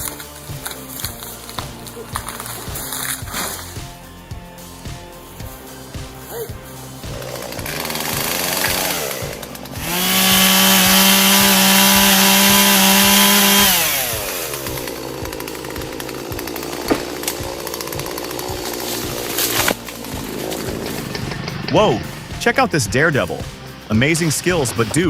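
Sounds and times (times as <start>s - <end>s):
faint background music: 0.0s - 15.9s, 18.3s - 25.0s
chainsaw revving: 0.0s - 25.0s.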